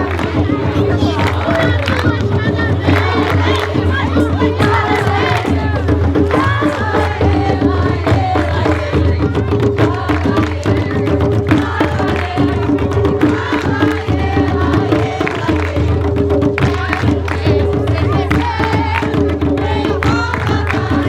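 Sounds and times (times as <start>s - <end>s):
group of voices singing: 0.0s - 21.0s
hand drums beating: 0.0s - 21.0s.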